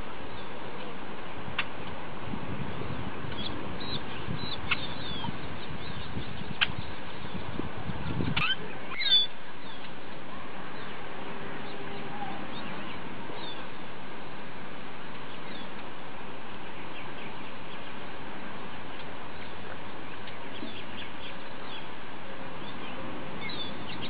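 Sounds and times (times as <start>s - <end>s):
birds chirping: 0.0s - 1.9s, 2.5s - 24.0s
steady background noise: 0.0s - 24.0s.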